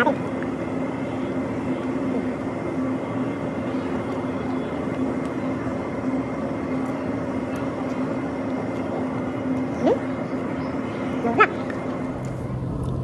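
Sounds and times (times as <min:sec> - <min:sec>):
building machinery drone: 0:00.0 - 0:13.0
constant low hum: 0:00.0 - 0:13.0.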